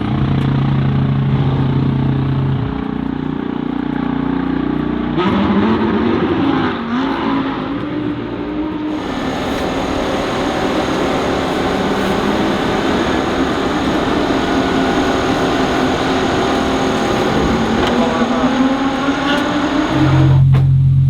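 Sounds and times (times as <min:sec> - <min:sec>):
race car engine running: 0:00.0 - 0:21.0.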